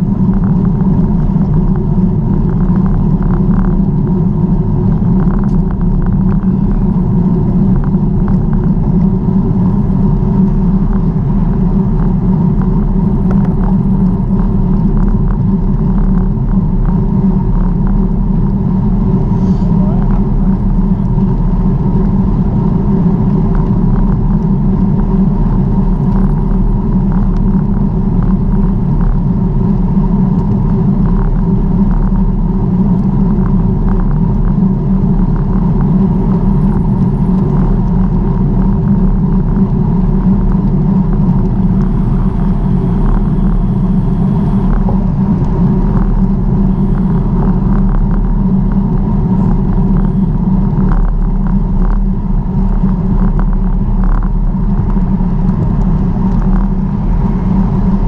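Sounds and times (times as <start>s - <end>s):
bicycle tyres on road: 0.0s - 58.0s
wind on microphone: 0.0s - 58.0s.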